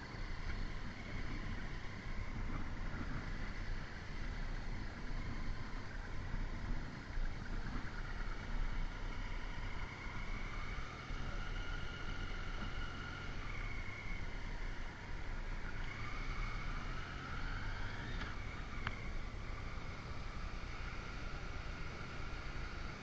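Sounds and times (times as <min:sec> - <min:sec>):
motorcycle engine cruising: 0:00.0 - 0:23.0
road noise: 0:00.0 - 0:23.0.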